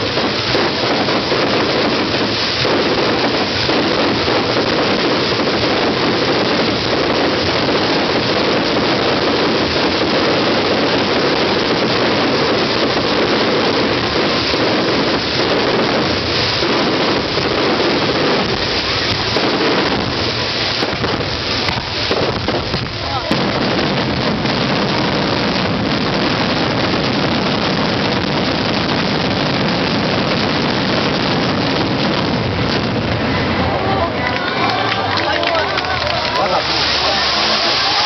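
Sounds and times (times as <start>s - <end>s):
fireworks crackling: 0.0s - 38.0s.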